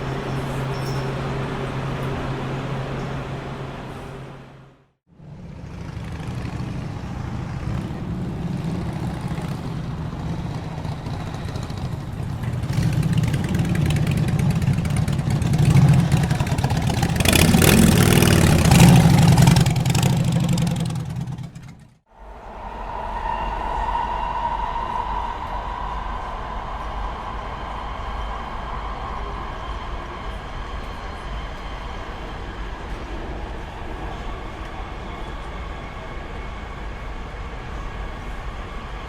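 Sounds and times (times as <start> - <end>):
vehicle engine rumbling: 0.0 - 36.6.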